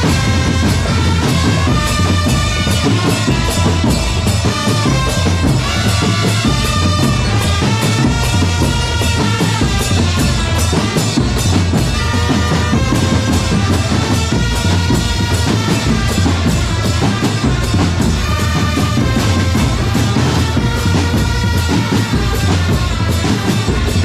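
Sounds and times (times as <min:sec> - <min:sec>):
band music with drums: 0:00.0 - 0:24.0.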